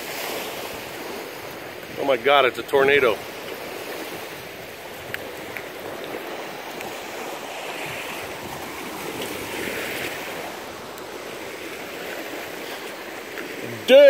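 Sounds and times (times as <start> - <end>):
small waves washing onto shore: 0.0 - 14.0.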